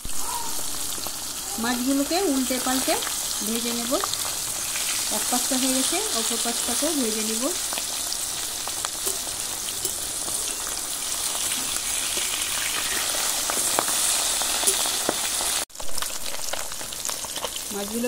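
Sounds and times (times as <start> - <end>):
fish frying in oil: 0.0 - 18.0.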